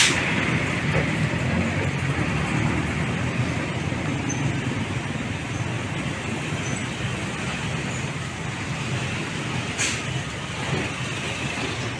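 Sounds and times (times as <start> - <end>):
truck engines running: 0.0 - 11.9.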